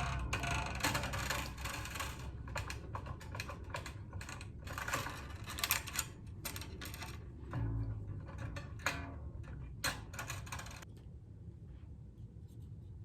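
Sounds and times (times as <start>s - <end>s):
guitar strings clicking and rattling: 0.0s - 10.9s.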